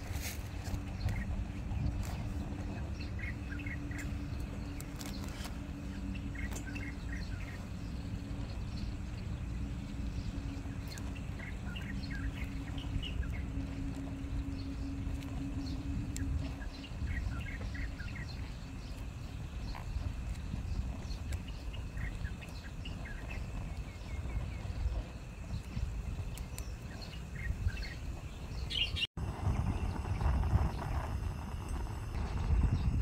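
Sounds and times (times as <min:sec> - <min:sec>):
faint hum: 0:00.0 - 0:33.0
low rumble: 0:00.0 - 0:33.0
small birds chirping: 0:00.0 - 0:33.0.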